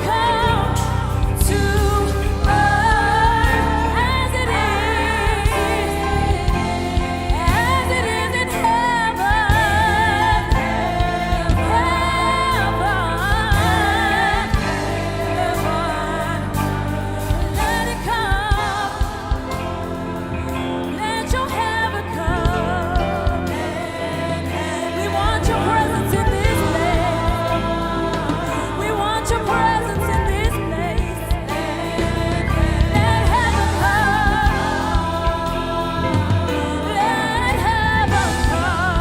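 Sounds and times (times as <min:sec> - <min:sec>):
band accompaniment: 0:00.0 - 0:39.0
voices singing gospel song: 0:00.0 - 0:39.0.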